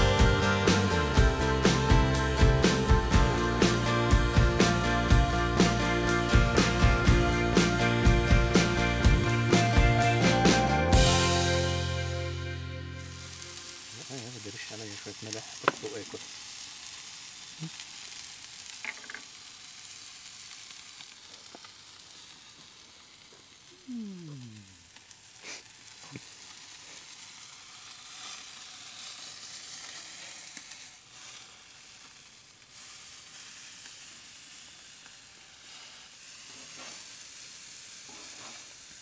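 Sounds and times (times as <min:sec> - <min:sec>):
meat sizzling on griddle: 0:00.0 - 0:11.8, 0:12.9 - 0:39.0.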